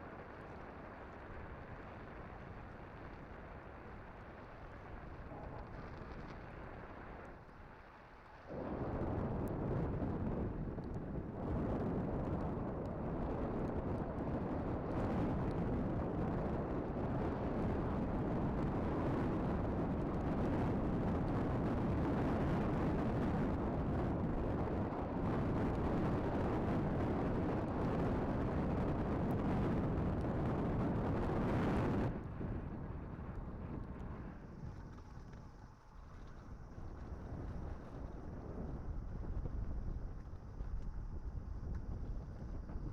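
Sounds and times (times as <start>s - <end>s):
wind buffeting microphone: 8.5s - 42.9s.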